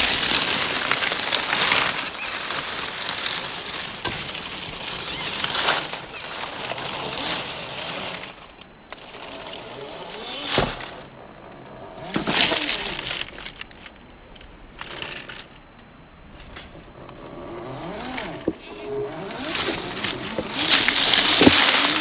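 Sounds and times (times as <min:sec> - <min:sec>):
rc car crawling over stones: 0:00.0 - 0:11.1, 0:12.0 - 0:13.6, 0:17.0 - 0:22.0.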